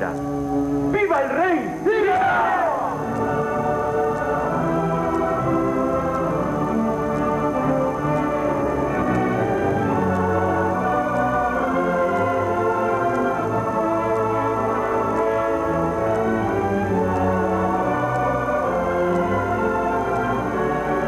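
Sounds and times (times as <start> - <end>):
organ playing held chords: 0.0 - 21.0.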